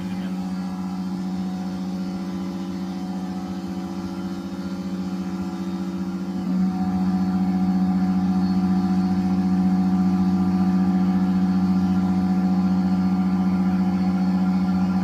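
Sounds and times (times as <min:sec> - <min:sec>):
spindle motor humming: 0:00.0 - 0:15.0.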